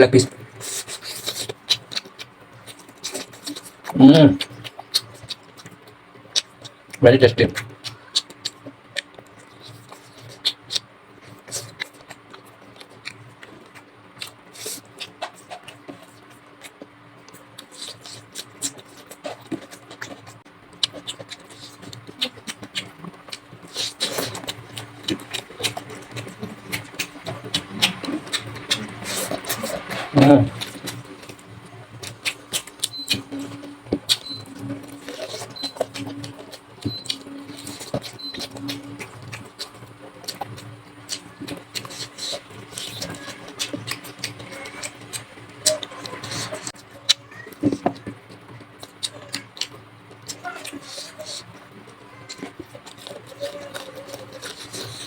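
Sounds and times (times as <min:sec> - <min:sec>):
wet chewing: 0:00.2 - 0:55.0.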